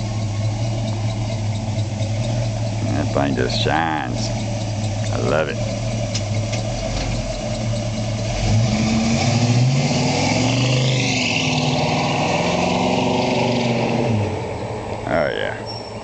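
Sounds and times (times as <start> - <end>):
vehicle engine accelerating: 0.0 - 16.0.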